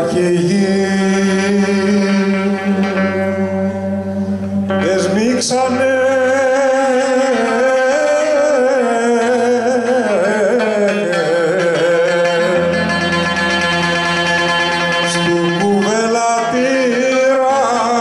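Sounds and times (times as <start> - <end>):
man singing folk song: 0.0 - 4.1, 4.7 - 14.0, 14.9 - 18.0
instrumental accompaniment: 0.0 - 18.0.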